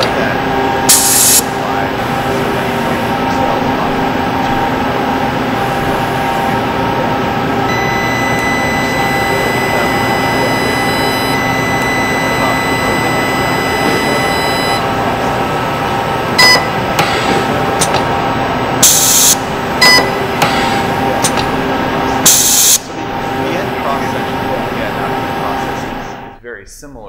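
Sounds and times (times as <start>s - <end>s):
high steady whine: 0.0s - 26.4s
welding machine drone: 0.0s - 26.4s.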